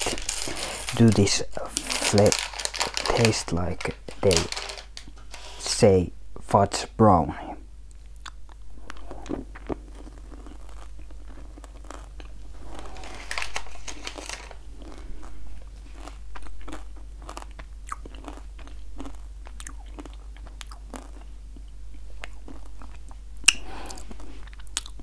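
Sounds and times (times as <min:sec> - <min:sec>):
person crunching candy: 0:00.0 - 0:05.6, 0:08.2 - 0:25.0.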